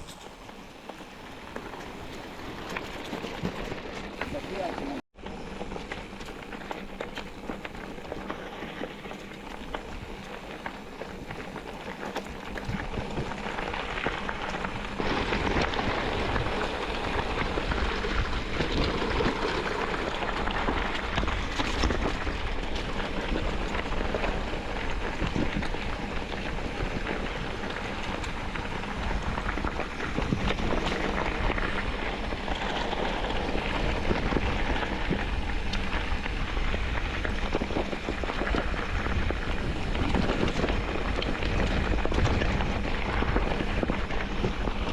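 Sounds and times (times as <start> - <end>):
tyres crackling on gravel: 0.0 - 44.9.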